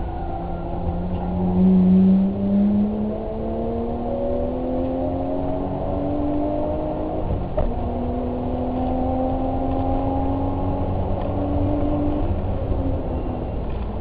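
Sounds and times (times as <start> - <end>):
vehicle engine low rumble: 0.0 - 14.0.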